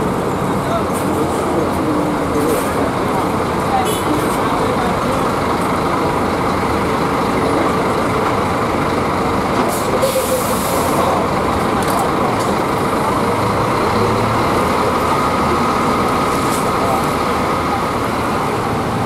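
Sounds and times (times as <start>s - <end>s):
buses idling: 0.0s - 19.0s.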